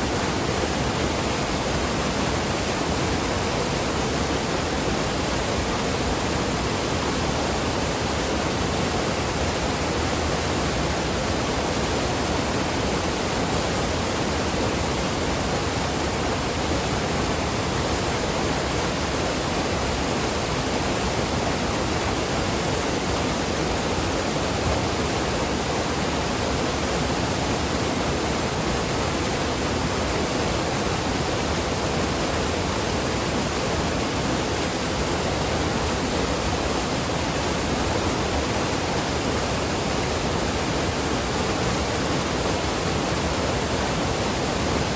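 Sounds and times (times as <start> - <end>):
fast-flowing water rushing: 0.0 - 44.9.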